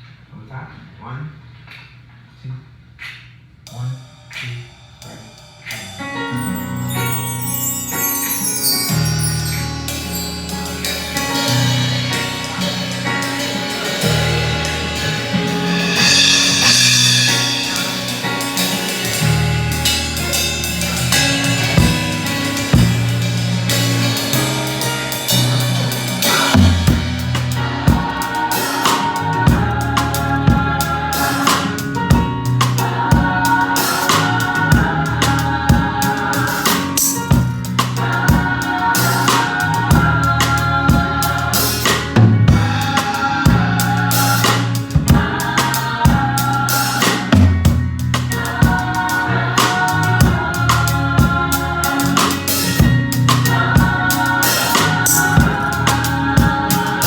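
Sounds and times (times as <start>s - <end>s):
drum kit playing a beat: 4.3s - 57.0s
held chords: 6.0s - 57.0s
bass notes: 9.0s - 57.0s.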